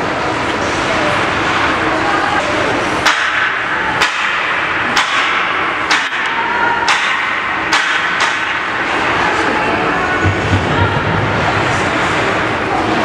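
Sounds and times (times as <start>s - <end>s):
arena background noise: 0.0s - 13.0s.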